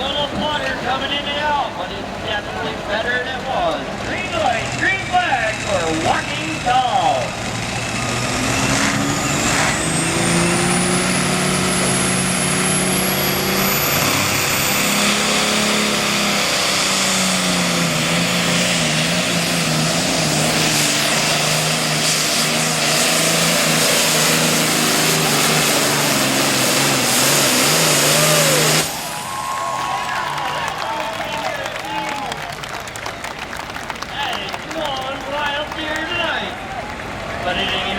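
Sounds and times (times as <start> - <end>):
tractor diesel engine under load: 0.0 - 37.9.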